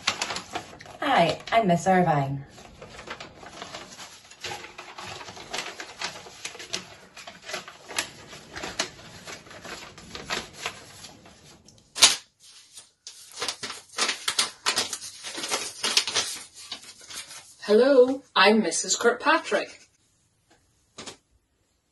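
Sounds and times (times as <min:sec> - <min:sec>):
paper crackling and rustling: 0:00.0 - 0:18.2.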